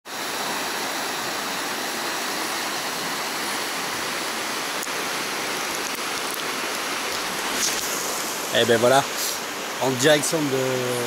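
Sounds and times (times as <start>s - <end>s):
creek rushing over rocks: 0.1s - 11.0s.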